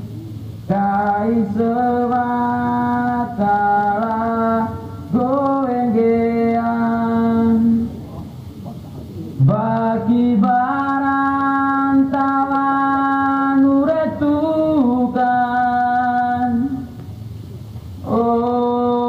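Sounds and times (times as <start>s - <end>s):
person singing chant-like song: 0.7s - 7.9s, 9.4s - 17.0s, 18.0s - 19.0s.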